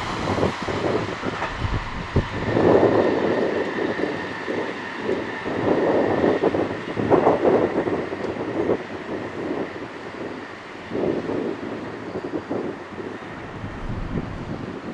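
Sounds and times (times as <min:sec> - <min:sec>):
train wheels rushing on rails: 0:00.0 - 0:14.9.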